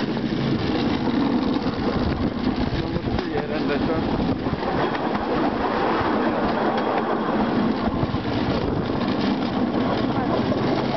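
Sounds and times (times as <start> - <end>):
rail car wheels rumbling on rails: 0.0 - 10.9.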